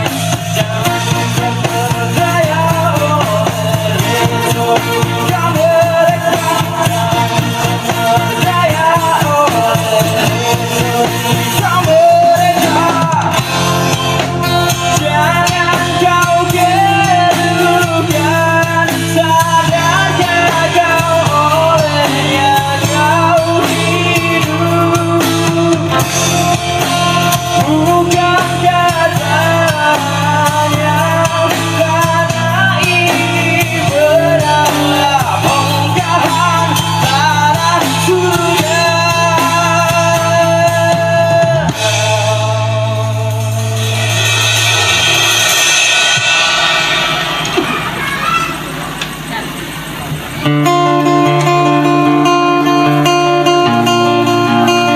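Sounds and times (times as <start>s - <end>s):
person singing: 0.0s - 44.2s
bass: 0.0s - 54.9s
drum kit: 0.0s - 54.9s
guitar: 0.0s - 54.9s.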